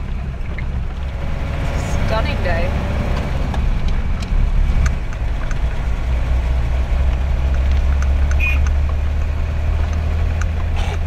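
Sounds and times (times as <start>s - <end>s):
diesel engine and road drone: 0.0s - 11.0s.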